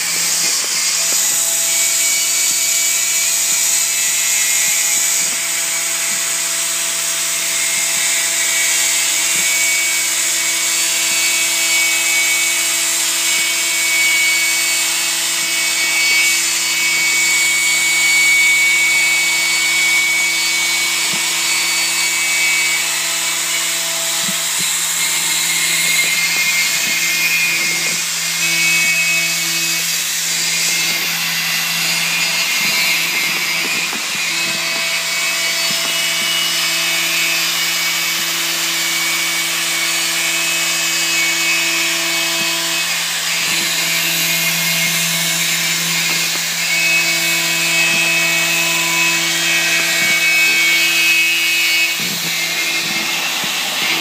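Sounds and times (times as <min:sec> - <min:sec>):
cutting hiss: 0:00.0 - 0:38.2, 0:40.4 - 0:54.0
machine spindle whine: 0:00.0 - 0:54.0.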